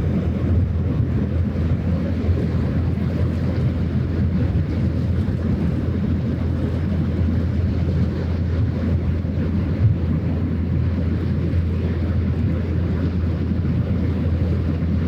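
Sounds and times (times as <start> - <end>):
ship engine drone: 0.0 - 15.0
wind rumbling on microphone: 0.0 - 15.0.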